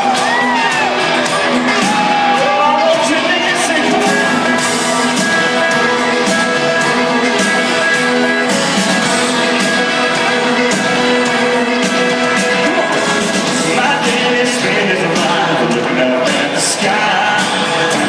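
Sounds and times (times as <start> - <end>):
live country band playing: 0.0 - 18.0.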